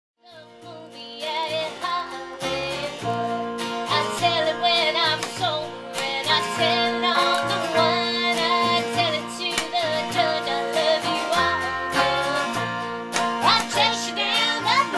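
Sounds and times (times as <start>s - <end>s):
acoustic guitar strumming: 0.2s - 14.9s
electric guitar lead line: 0.5s - 14.9s.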